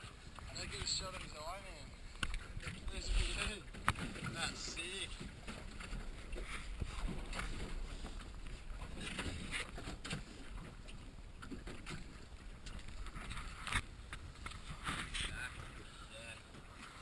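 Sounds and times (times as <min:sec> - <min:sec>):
water around a boat: 0:00.0 - 0:17.0
wind: 0:00.0 - 0:17.0.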